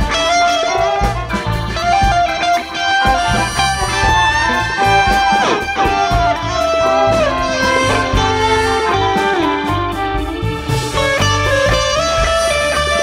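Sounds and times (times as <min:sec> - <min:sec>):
electric guitar: 0:00.0 - 0:13.0
horns: 0:00.0 - 0:13.0
jazz big band playing: 0:00.0 - 0:13.0
steady drum beat: 0:00.0 - 0:13.0.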